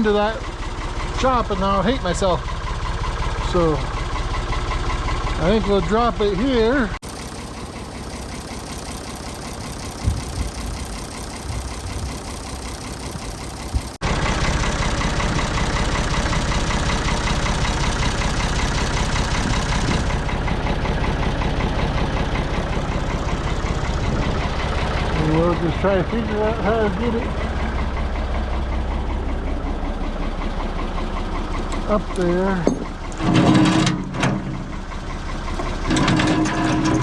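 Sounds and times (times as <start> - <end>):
backhoe diesel engine running: 0.0 - 37.0.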